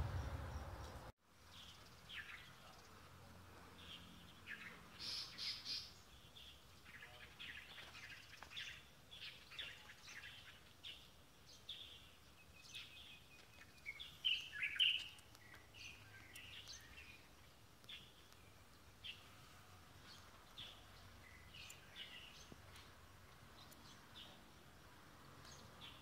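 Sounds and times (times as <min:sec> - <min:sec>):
faint outdoor background: 0:00.0 - 0:26.0
small birds chirping: 0:00.0 - 0:26.0.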